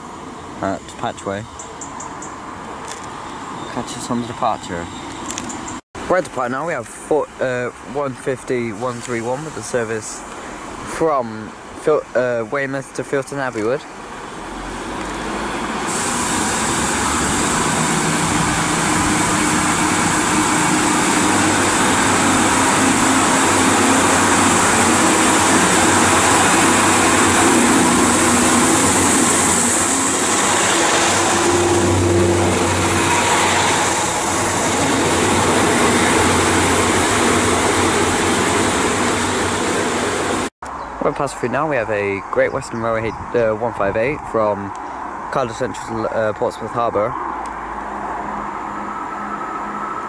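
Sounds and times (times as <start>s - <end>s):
wheel and rail noise: 0.0s - 12.0s, 12.8s - 41.3s
diesel train engines humming: 0.0s - 43.2s, 47.0s - 50.0s.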